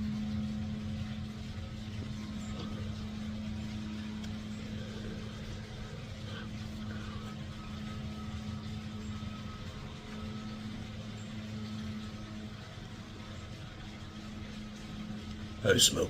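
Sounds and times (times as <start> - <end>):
low rumble: 0.0 - 15.6
low mechanical hum: 0.0 - 16.0.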